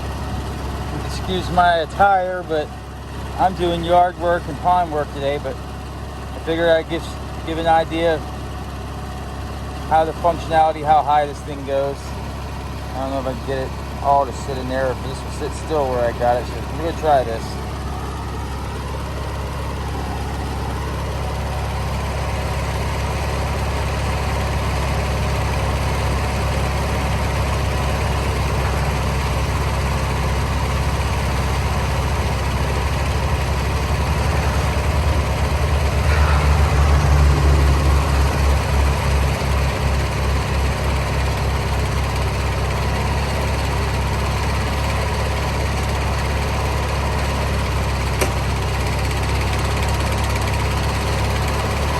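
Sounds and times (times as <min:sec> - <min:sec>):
garden tractor engine running: 0:00.0 - 0:51.9.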